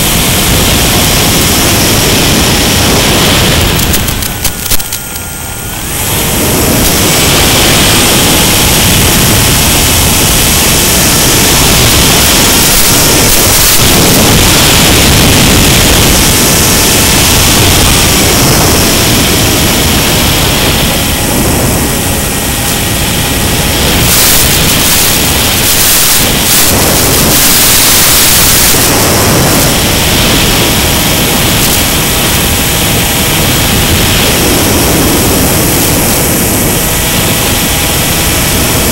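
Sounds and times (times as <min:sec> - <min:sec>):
electric motor and propeller tones: 0:00.0 - 0:38.9
wind rushing over microphone: 0:00.0 - 0:38.9.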